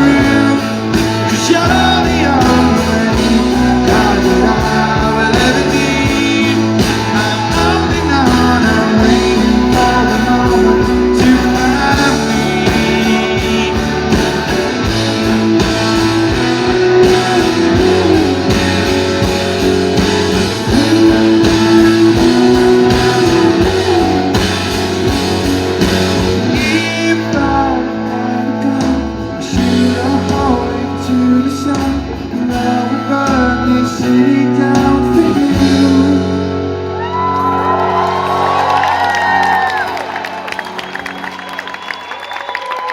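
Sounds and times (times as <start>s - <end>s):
person singing: 0.0s - 38.7s
live rock band playing: 0.0s - 42.9s.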